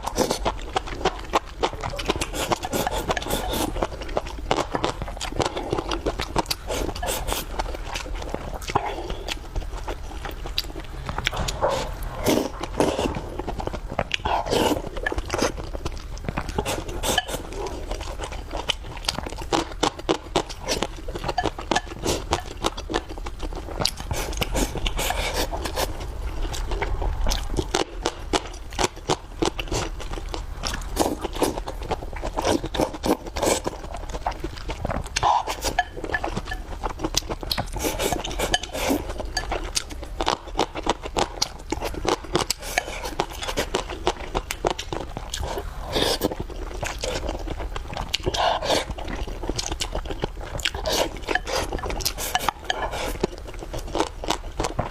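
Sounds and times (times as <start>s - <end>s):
chewing and crunching: 0.0s - 54.9s.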